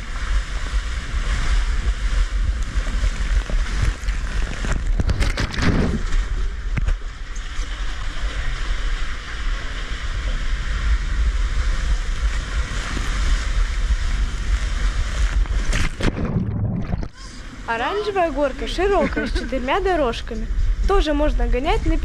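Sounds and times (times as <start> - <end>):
rushing water: 0.0 - 22.0
wind buffeting microphone: 0.0 - 22.0.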